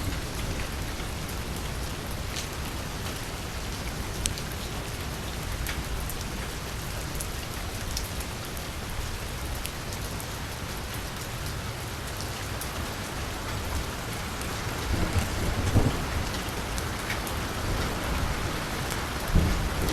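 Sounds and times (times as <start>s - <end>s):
rain on paved street: 0.0s - 19.9s
raindrops ticking: 0.0s - 19.9s.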